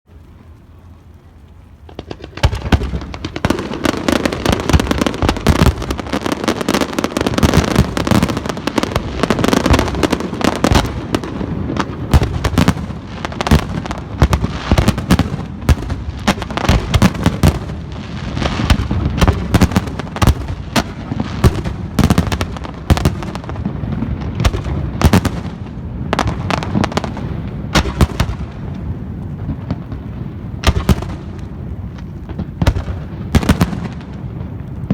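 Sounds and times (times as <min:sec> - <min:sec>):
fireworks bangs and crackling: 0:00.2 - 0:34.9.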